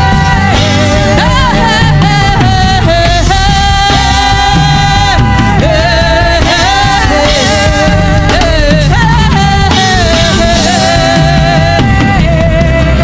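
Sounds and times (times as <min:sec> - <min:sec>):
gospel worship music: 0:00.0 - 0:13.0
heavy bass: 0:00.0 - 0:13.0
singer holding long notes: 0:00.0 - 0:13.0.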